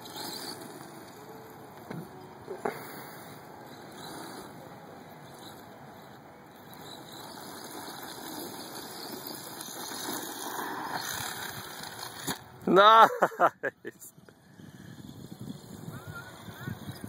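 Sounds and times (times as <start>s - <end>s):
rc truck motor and tyres on dirt: 0.0s - 17.0s.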